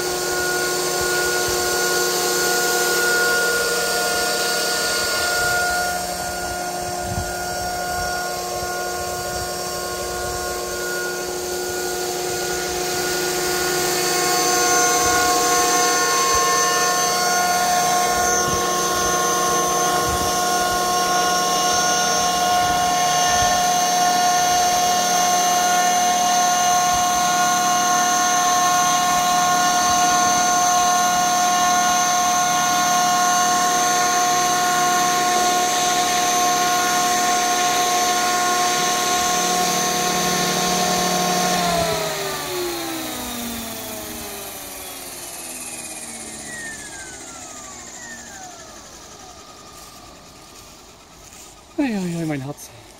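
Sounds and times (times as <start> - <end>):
rc helicopter motor whine: 0.0 - 52.9
rotor whirring: 0.0 - 52.9.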